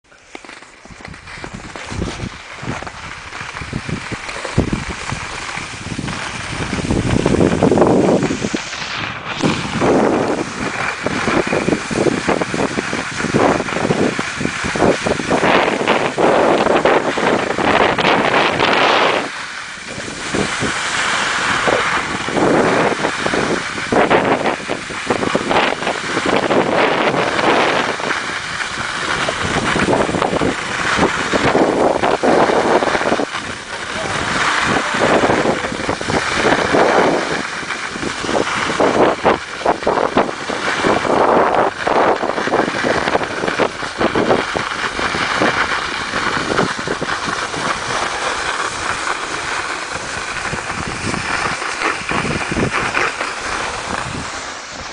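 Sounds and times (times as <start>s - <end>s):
skis scraping over snow: 0.0s - 54.9s
wind buffeting microphone: 0.8s - 54.9s.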